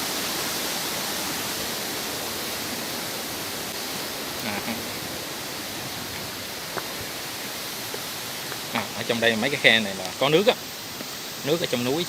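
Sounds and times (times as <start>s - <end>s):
stream water over rocks: 0.0s - 12.0s.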